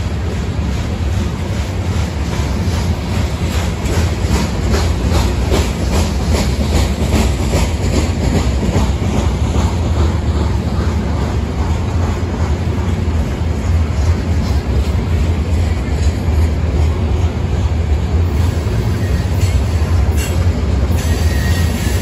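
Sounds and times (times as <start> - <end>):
train wheels rumbling on rail: 0.0 - 22.0
wheels clacking over rail joints: 0.0 - 22.0.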